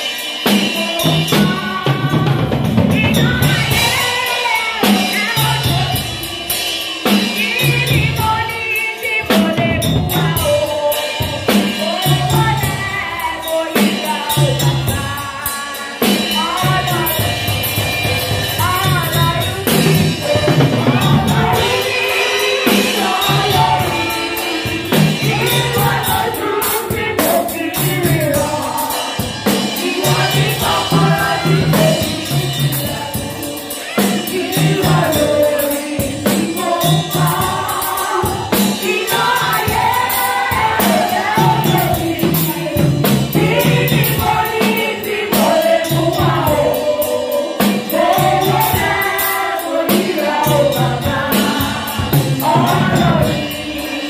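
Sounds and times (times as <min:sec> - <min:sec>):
drum kit beat: 0:00.0 - 0:54.0
women singing gospel: 0:00.0 - 0:54.0.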